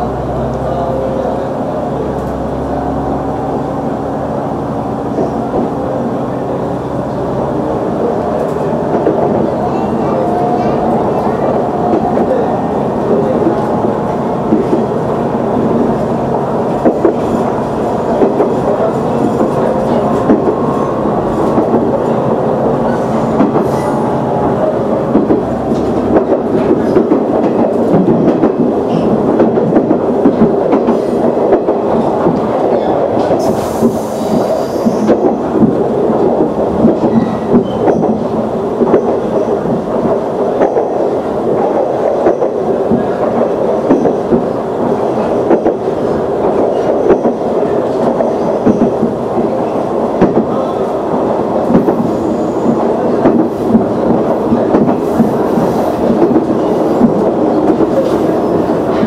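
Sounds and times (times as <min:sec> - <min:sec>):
diesel railcar engine running: 0:00.0 - 0:59.0.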